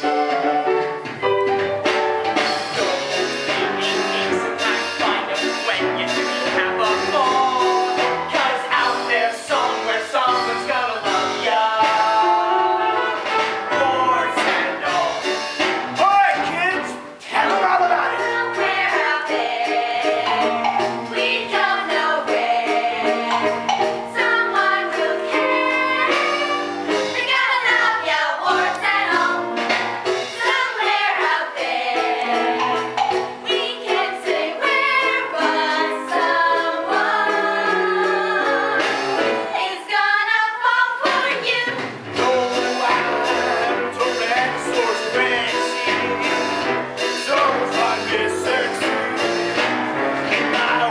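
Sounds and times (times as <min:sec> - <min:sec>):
instrumental accompaniment with beat: 0:00.0 - 0:39.8, 0:41.0 - 0:50.9
voices singing show tune: 0:02.5 - 0:29.6, 0:30.2 - 0:50.9.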